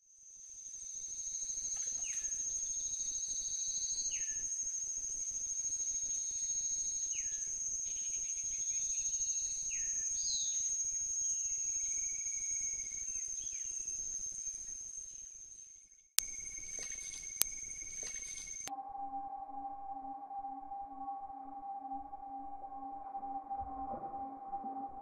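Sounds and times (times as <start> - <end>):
high-pitched insect drone: 0.6 - 15.4, 16.2 - 25.0.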